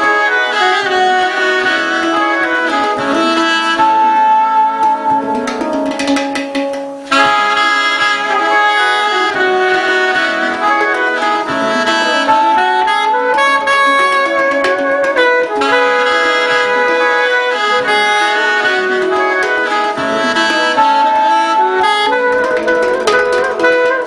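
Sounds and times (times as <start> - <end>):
alto saxophone melody: 0.0 - 24.0
handpan struck with hands: 0.0 - 24.0.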